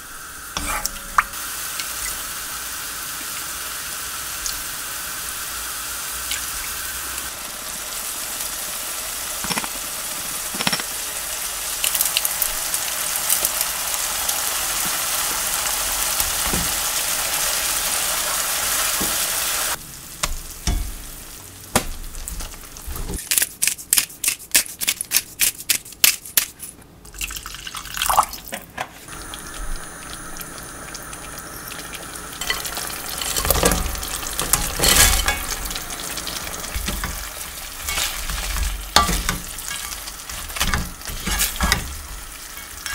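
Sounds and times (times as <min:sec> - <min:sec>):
oil sizzling in a wok: 0:00.0 - 0:23.2, 0:29.1 - 0:42.9.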